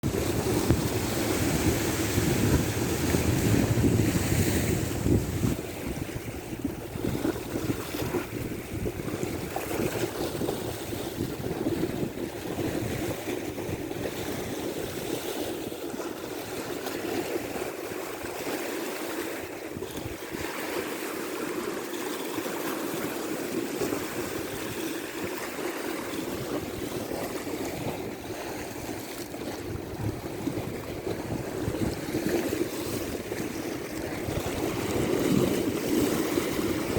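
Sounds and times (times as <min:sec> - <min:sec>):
wind buffeting microphone: 0:00.0 - 0:18.5, 0:19.5 - 0:20.8, 0:23.0 - 0:36.9
sea waves washing: 0:00.0 - 0:36.9.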